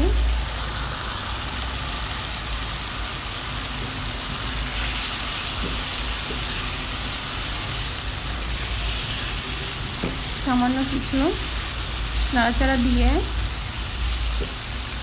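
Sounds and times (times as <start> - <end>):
eggplant sizzling in oil: 0.0 - 15.0.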